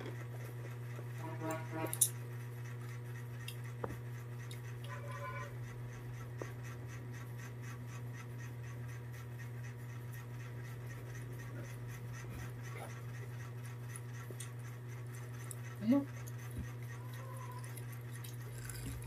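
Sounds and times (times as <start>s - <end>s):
machine humming: 0.0s - 2.4s, 3.4s - 19.0s.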